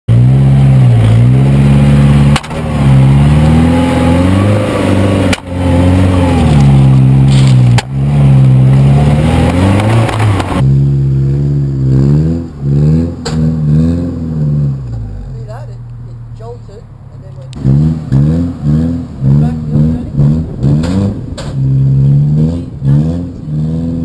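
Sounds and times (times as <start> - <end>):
car engine running: 0.1 - 24.0.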